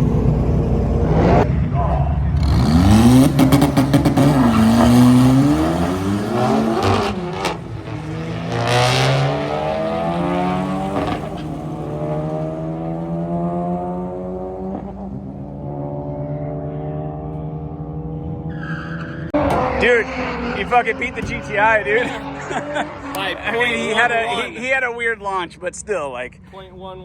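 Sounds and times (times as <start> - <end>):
drag race cars accelerating: 0.0 - 24.8.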